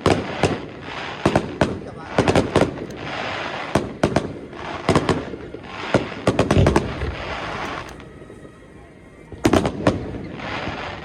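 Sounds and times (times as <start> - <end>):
fireworks bangs: 0.0 - 11.0
fireworks crackling hiss: 0.0 - 11.0.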